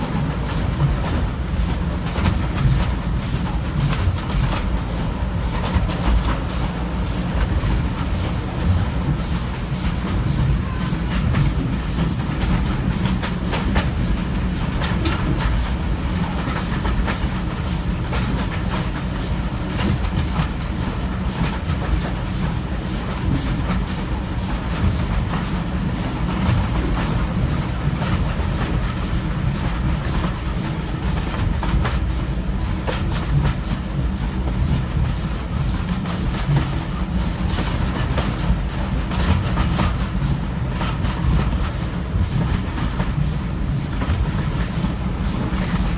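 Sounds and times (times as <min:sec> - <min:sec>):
train coaches rumbling: 0:00.0 - 0:45.9.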